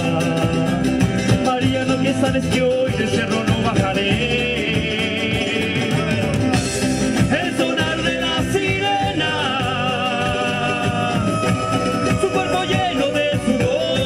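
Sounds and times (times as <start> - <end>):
bass guitar: 0.0 - 14.0
man singing: 0.0 - 14.0
strummed acoustic guitar: 0.0 - 14.0.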